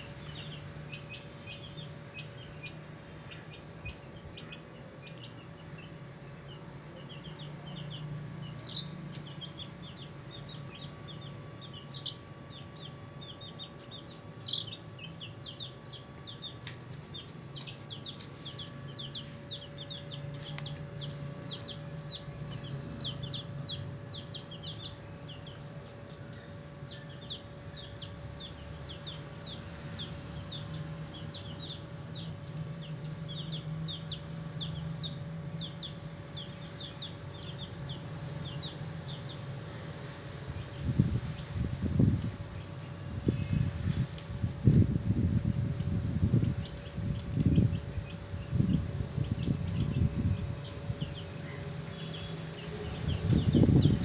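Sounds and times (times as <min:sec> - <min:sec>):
chicks peeping: 0:00.0 - 0:54.0
steady low hum: 0:00.0 - 0:54.0.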